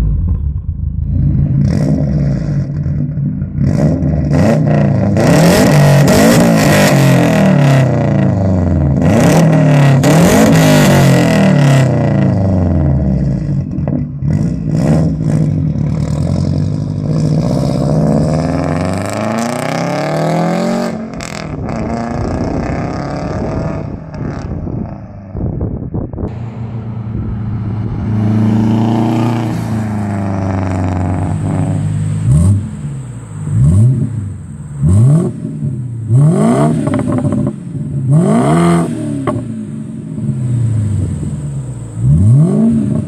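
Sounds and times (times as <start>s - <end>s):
car engine revving: 0.0s - 25.4s, 26.2s - 43.0s.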